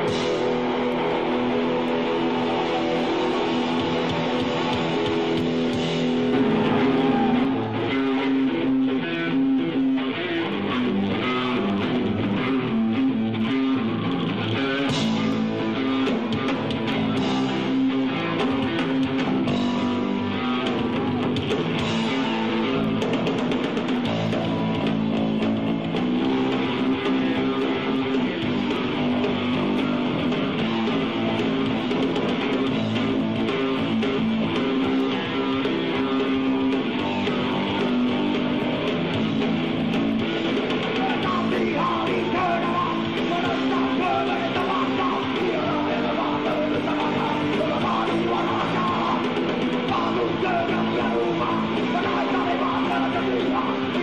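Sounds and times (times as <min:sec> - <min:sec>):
bass: 0:00.0 - 0:54.0
drums: 0:00.0 - 0:54.0
electric guitar chords: 0:00.0 - 0:54.0.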